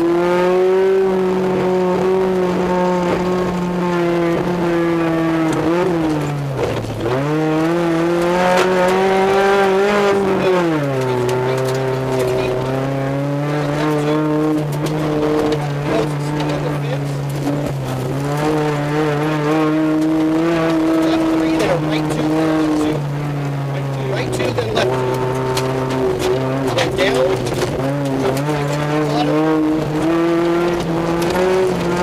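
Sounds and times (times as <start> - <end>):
rally car engine under hard throttle: 0.0 - 32.0
road noise: 0.0 - 32.0.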